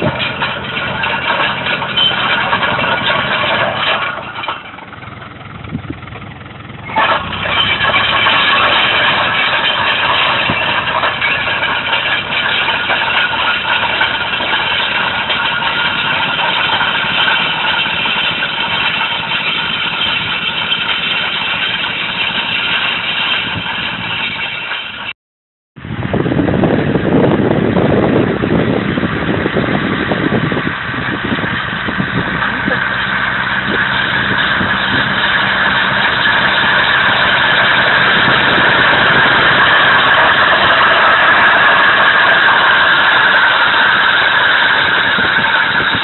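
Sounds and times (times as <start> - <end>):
tractor diesel engine running: 0.0 - 25.2, 25.8 - 46.0.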